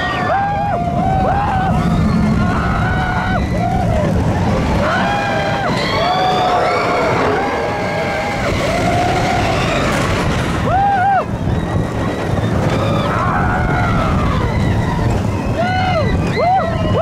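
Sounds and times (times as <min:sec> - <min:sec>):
riders screaming: 0:00.0 - 0:17.0
roller coaster rumbling: 0:00.0 - 0:17.0.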